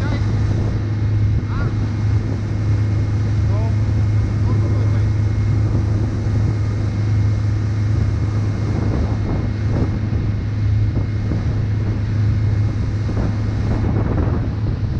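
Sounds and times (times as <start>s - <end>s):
boat engine droning: 0.0s - 14.9s
water rushing past hull: 0.0s - 14.9s
wind buffeting microphone: 0.0s - 14.9s.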